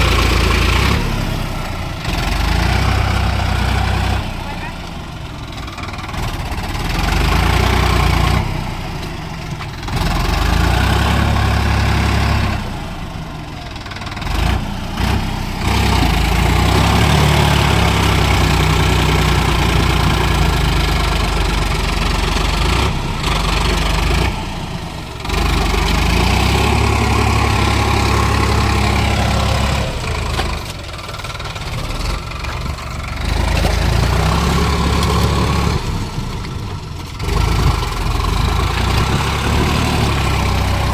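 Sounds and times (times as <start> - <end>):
tractor diesel engine labouring: 0.0 - 40.9.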